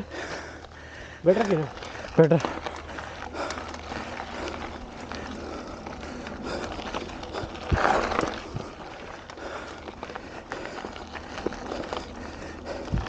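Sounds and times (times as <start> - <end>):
bike rattling and clicking: 0.0 - 13.0
bike tyres crunching on gravel: 0.0 - 13.0.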